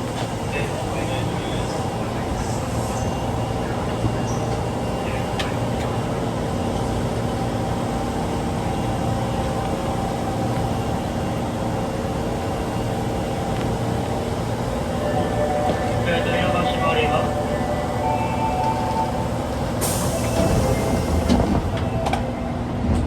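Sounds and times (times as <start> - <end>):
subway car running: 0.0 - 23.0.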